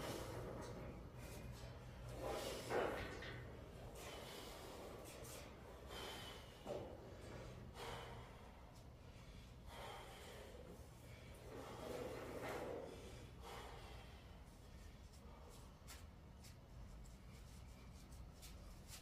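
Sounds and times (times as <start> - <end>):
man breathing hard: 0.0 - 15.9.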